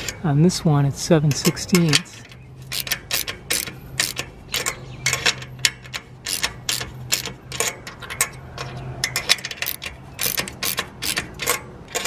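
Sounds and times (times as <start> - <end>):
hand ratchet clicking: 1.3 - 12.0.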